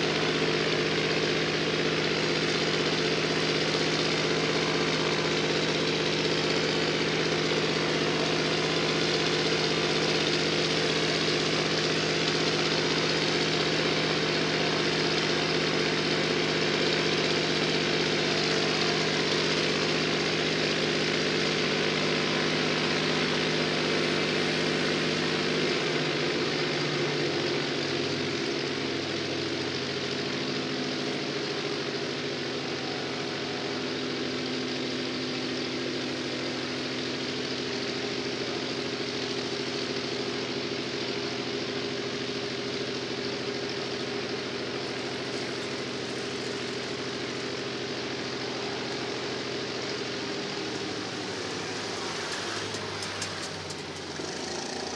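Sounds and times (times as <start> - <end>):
propeller engine idling: 0.0 - 54.9.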